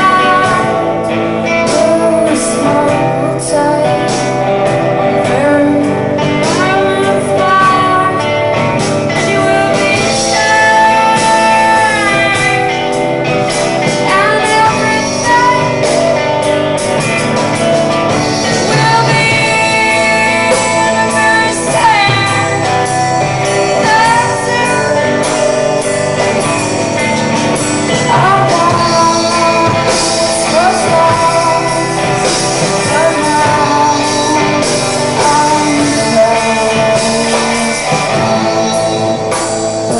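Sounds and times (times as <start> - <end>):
drums: 0.0 - 39.9
electric guitars: 0.0 - 39.9
woman singing: 0.0 - 39.9.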